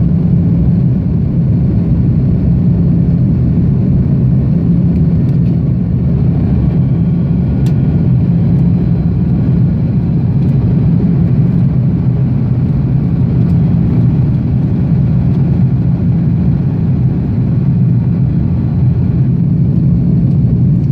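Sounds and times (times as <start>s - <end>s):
jet engines droning in cabin: 0.0s - 20.9s.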